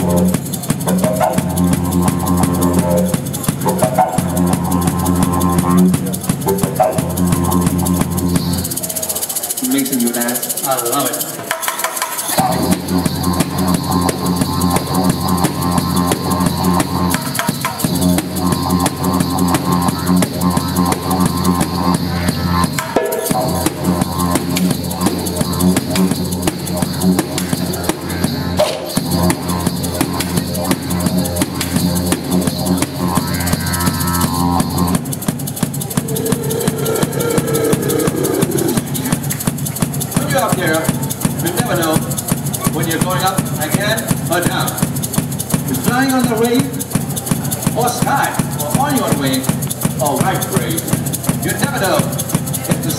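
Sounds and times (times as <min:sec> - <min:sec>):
didgeridoo drone: 0:00.0 - 0:09.7, 0:12.2 - 0:52.9
percussion beat: 0:00.0 - 0:52.9.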